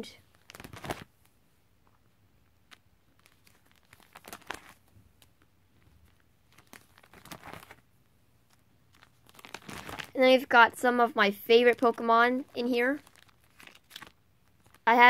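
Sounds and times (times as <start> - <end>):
plastic binder pages crinkling: 0.2 - 10.4, 11.5 - 14.9.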